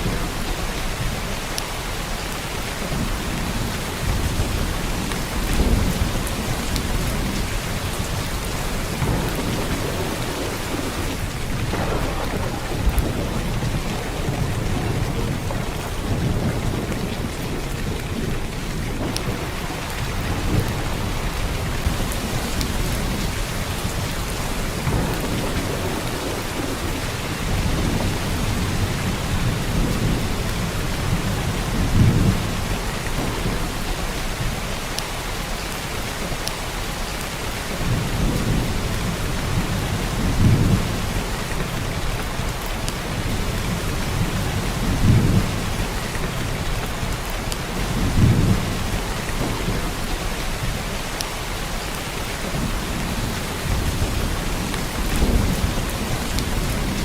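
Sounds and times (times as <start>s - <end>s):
heavy rain downpour: 0.0s - 57.0s.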